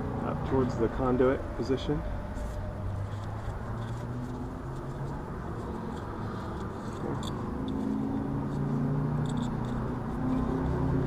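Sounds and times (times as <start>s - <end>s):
low engine-like hum: 0.0s - 11.0s.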